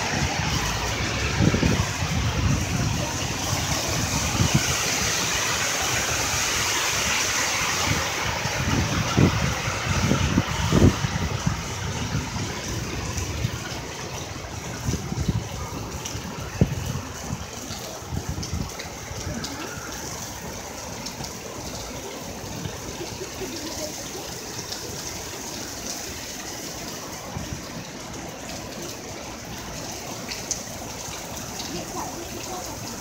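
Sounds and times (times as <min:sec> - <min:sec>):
heavy rain and running water: 0:00.0 - 0:33.0.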